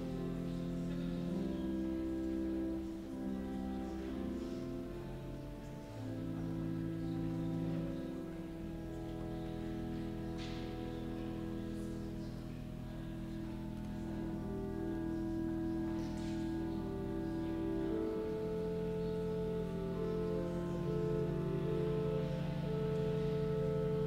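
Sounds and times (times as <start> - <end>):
slow instrumental music: 0.0 - 24.0.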